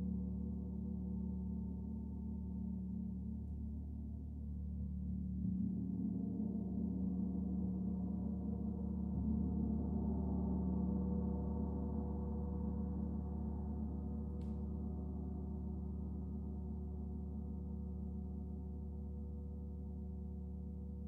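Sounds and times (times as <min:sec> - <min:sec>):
gong sustained hum: 0:00.0 - 0:21.0.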